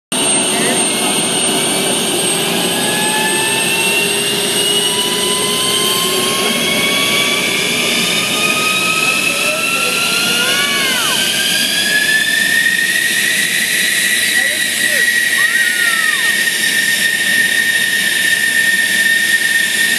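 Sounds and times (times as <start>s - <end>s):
jet engine spooling up: 0.1s - 19.9s.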